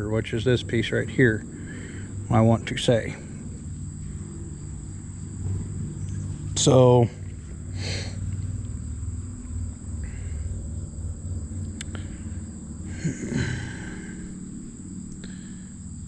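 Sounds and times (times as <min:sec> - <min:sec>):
crickets chirring: 0:00.0 - 0:16.0
low outdoor rumble: 0:00.0 - 0:16.0.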